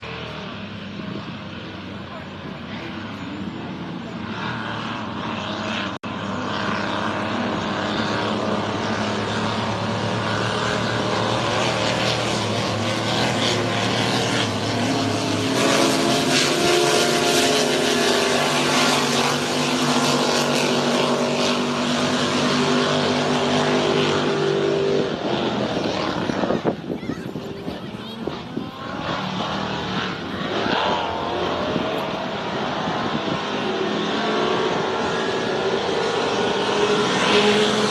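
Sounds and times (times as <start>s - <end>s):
powerboat engines at high revs: 0.0s - 37.9s.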